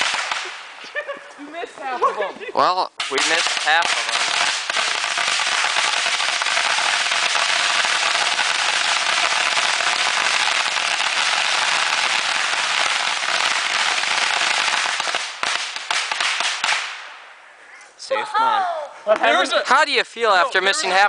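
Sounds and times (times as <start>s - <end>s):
fireworks crackling and banging: 0.0s - 17.4s.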